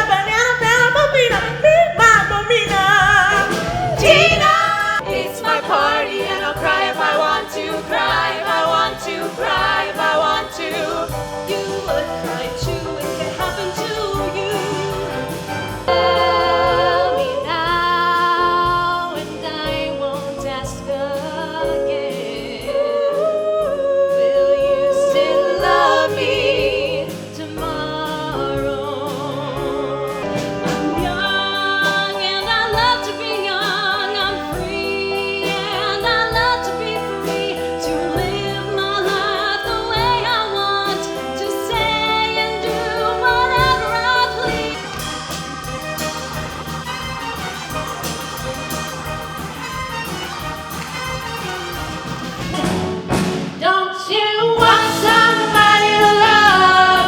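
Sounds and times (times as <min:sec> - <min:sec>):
voices singing in harmony: 0:00.0 - 0:46.9, 0:54.5 - 0:57.0
band accompaniment: 0:00.0 - 0:54.0, 0:54.6 - 0:57.0.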